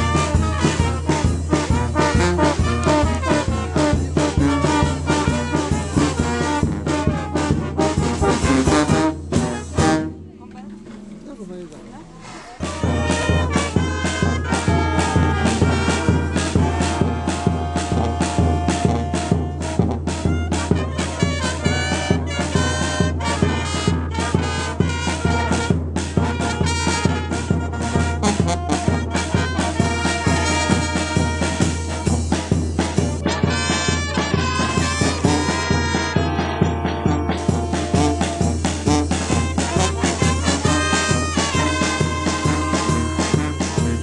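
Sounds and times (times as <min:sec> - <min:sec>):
brass band playing: 0:00.0 - 0:44.0.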